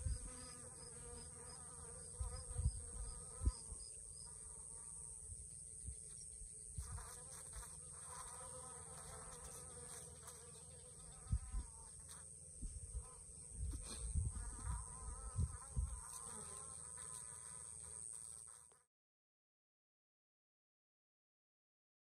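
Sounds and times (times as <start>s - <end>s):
bees buzzing: 0.0s - 18.7s.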